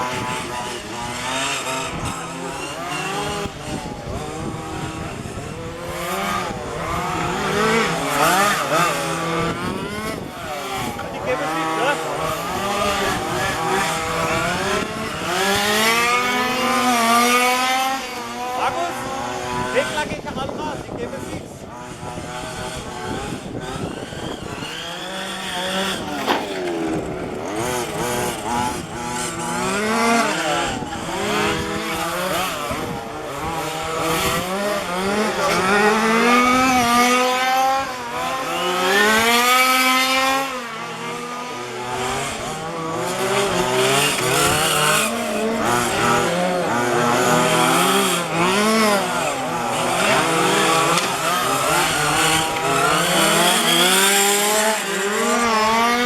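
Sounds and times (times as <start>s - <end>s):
rc car engines revving: 0.0s - 56.0s.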